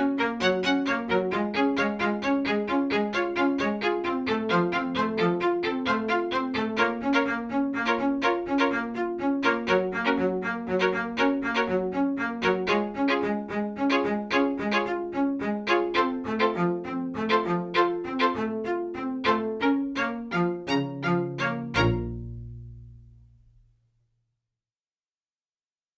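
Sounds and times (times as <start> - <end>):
instrumental string music: 0.0 - 23.7.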